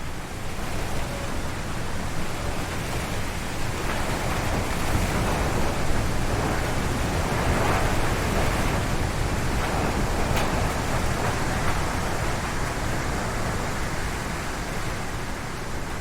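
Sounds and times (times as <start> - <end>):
strong wind gusting through trees: 0.0 - 16.0.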